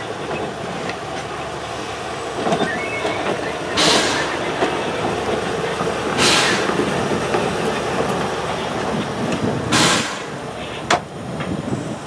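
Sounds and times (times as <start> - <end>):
diesel locomotive engine running: 0.0 - 12.0
wheels rumbling on rail: 0.0 - 12.0.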